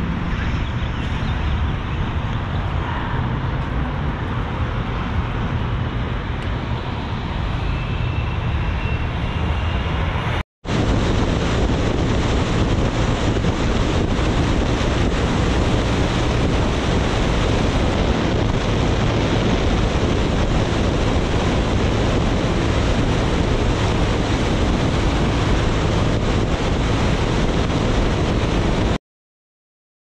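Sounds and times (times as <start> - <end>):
wind noise on microphone: 0.0 - 29.0.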